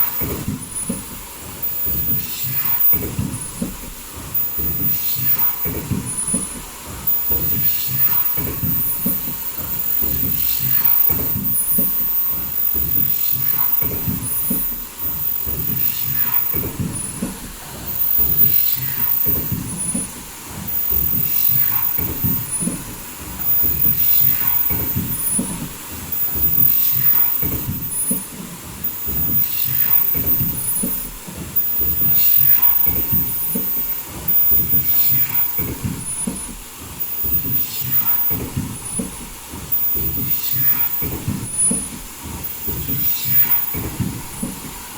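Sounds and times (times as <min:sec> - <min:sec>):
machine stroke clicks: 0:00.0 - 0:44.9
production line machinery cycling: 0:00.0 - 0:44.9.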